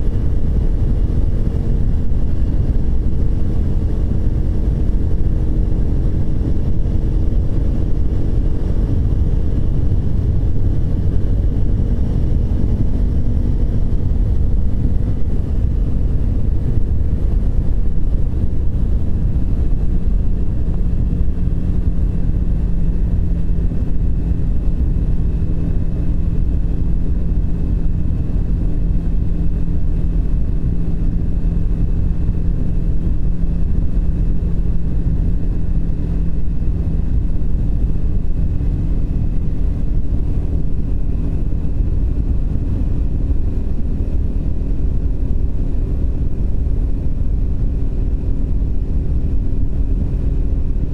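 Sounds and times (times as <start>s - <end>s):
wind rumble on microphone: 0.0s - 50.9s.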